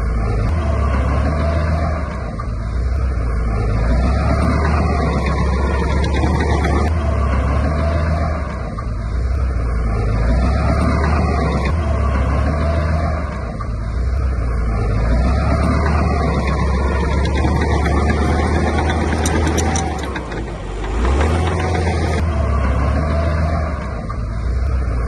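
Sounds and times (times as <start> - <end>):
diesel construction machinery running: 0.0 - 25.0.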